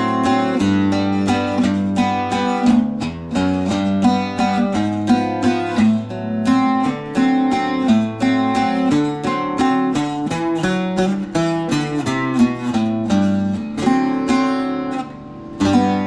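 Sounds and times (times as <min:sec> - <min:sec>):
twelve-string guitar picking: 0:00.0 - 0:16.0.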